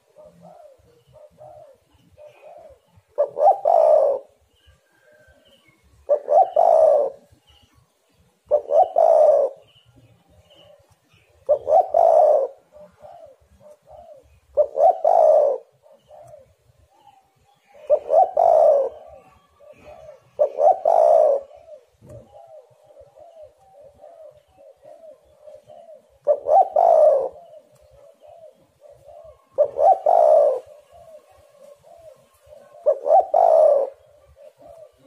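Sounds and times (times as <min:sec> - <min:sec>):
dove cooing: 0:00.0 - 0:07.7, 0:08.4 - 0:35.0
faint distant dove cooing: 0:00.0 - 0:35.0.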